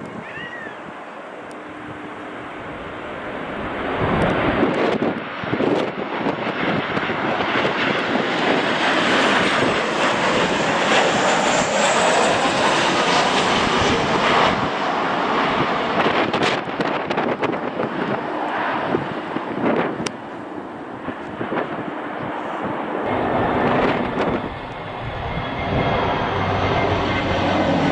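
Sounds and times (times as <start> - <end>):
airliner engines passing: 0.0 - 27.9
wind buffeting microphone: 1.6 - 27.9.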